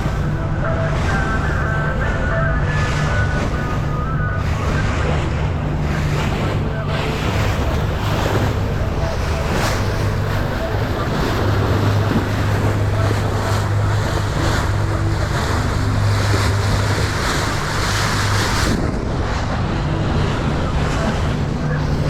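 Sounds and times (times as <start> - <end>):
boat engine drone: 0.0 - 22.0
water rushing along hull: 0.0 - 22.0
wind buffeting microphone: 0.0 - 22.0.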